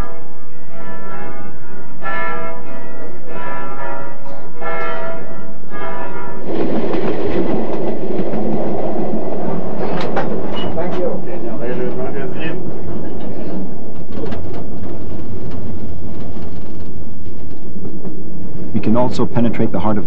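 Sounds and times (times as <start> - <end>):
passenger train running on track: 0.0 - 19.8.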